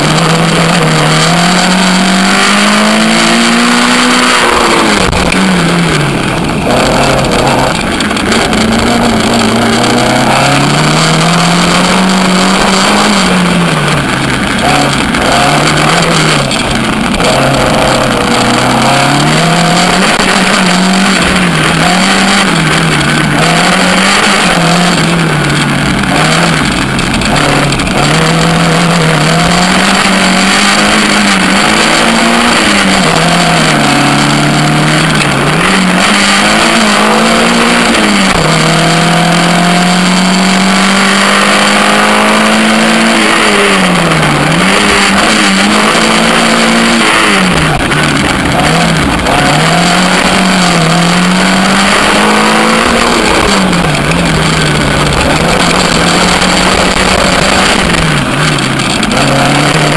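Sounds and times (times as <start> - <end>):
car engine revving: 0.0 - 59.9
road roar: 0.0 - 59.9.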